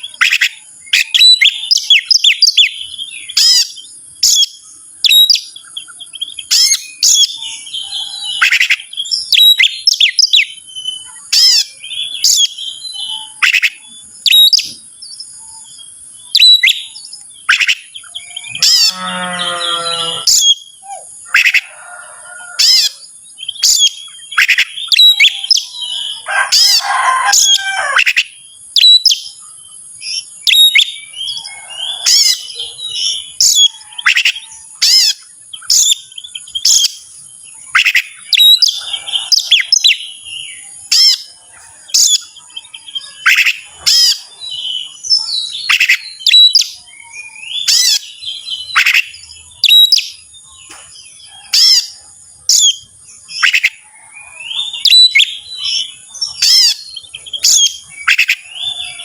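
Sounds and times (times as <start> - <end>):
bird singing whistles and chatter: 0.0 - 21.9, 22.6 - 59.0.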